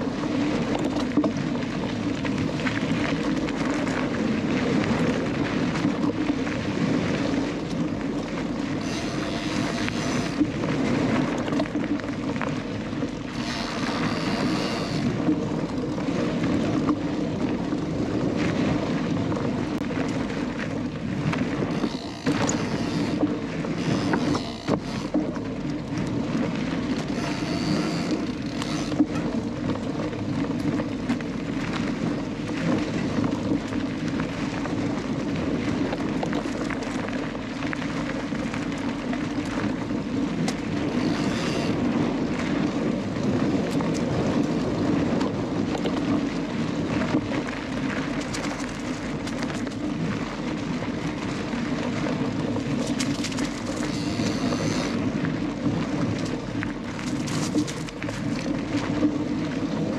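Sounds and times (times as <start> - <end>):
bike knocking and rattling: 0.0 - 17.0, 21.4 - 26.2, 26.8 - 35.0, 35.7 - 50.0, 52.5 - 58.8
wind noise on microphone: 0.0 - 59.9.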